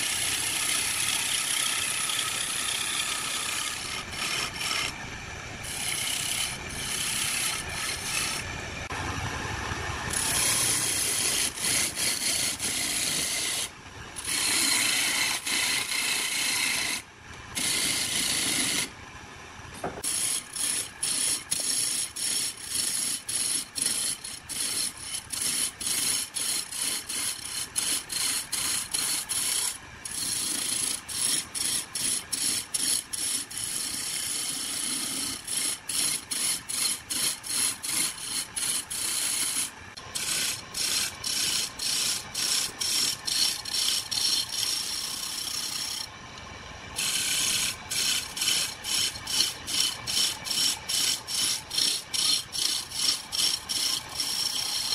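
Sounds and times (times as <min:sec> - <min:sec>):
lathe chisel scraping wood: 0:00.0 - 0:05.0, 0:05.6 - 0:08.5, 0:10.1 - 0:17.0, 0:17.6 - 0:18.9, 0:19.8 - 0:46.1, 0:47.0 - 0:54.9.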